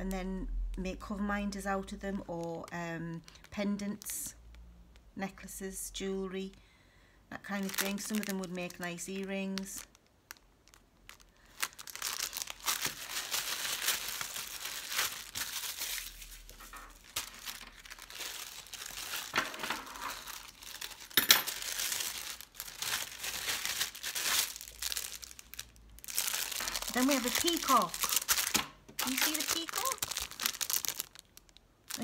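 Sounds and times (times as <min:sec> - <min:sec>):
plastic bags crinkling: 0:01.5 - 0:04.4, 0:07.4 - 0:32.0.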